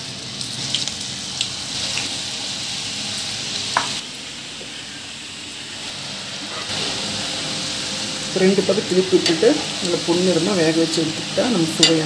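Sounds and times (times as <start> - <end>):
food deep-frying in sizzling oil: 0.0 - 12.0.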